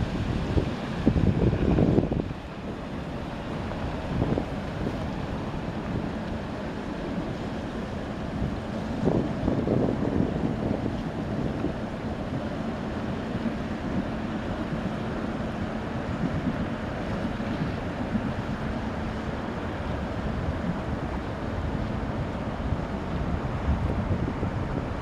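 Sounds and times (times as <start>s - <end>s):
ship passing low rumble: 0.0s - 25.0s
wind buffeting microphone: 0.0s - 25.0s.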